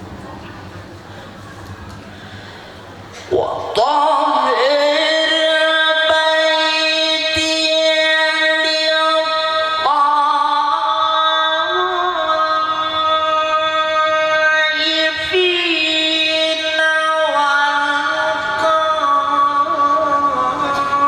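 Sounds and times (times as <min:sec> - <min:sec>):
person reciting melodically: 0:03.2 - 0:21.0.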